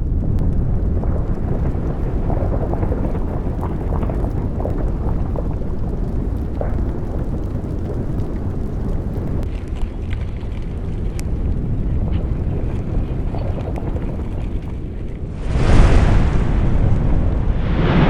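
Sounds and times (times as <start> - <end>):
crackles and pops: 0.0 - 18.0
volcano rumbling: 0.0 - 18.0.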